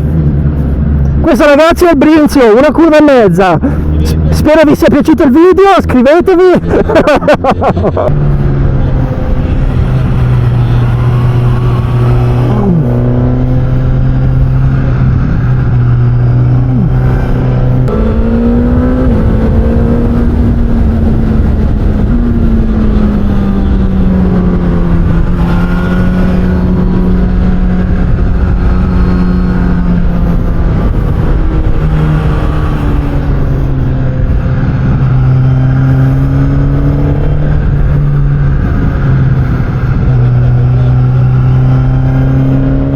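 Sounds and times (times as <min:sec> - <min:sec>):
motorcycle engine while riding: 0:00.0 - 0:42.9
wind noise: 0:03.6 - 0:42.9.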